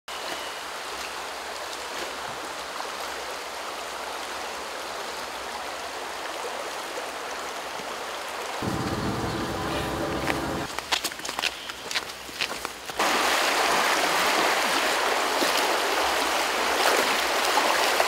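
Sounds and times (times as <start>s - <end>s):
stream flowing: 0.1s - 18.0s.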